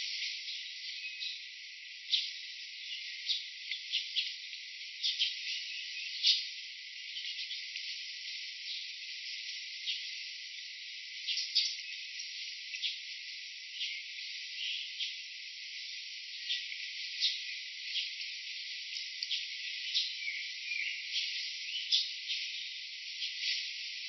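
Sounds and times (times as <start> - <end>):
high insect hiss: 0.0 - 24.0.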